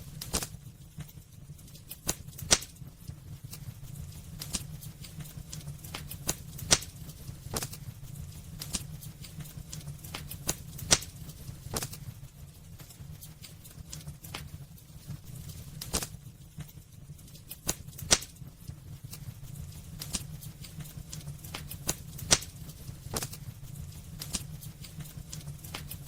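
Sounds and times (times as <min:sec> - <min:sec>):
firewood crackling and popping: 0:00.0 - 0:26.0
low rumble of fire: 0:00.0 - 0:26.0.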